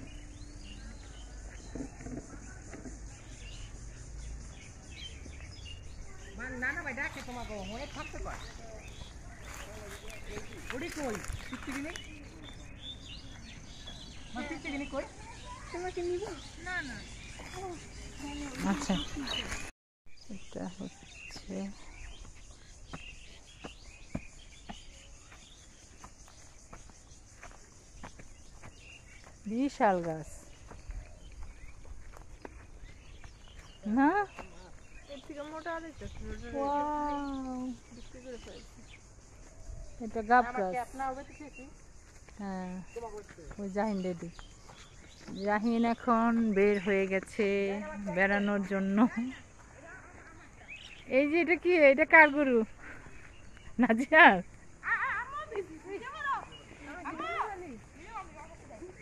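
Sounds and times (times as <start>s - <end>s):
bird chirps: 0.0s - 59.0s
high insect hum: 0.0s - 59.0s.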